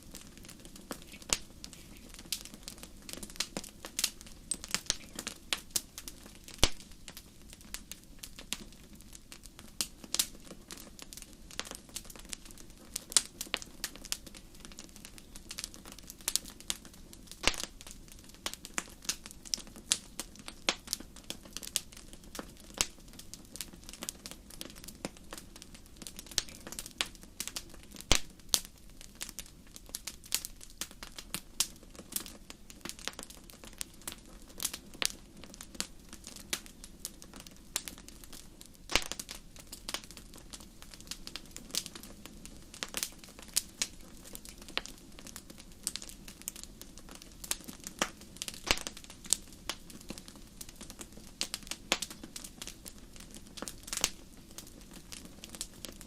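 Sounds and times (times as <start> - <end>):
fire crackling and popping: 0.0 - 56.0
low rush of flames: 0.0 - 56.0.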